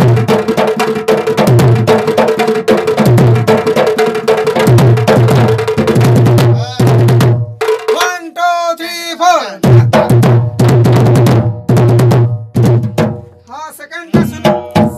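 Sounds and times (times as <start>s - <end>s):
drum beaten in fast rhythm: 0.0s - 14.9s.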